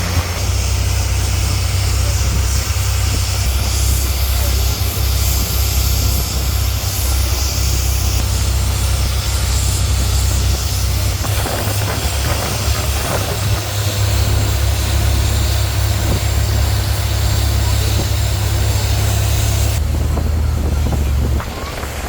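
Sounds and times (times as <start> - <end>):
boat engine low drone: 0.0 - 22.0.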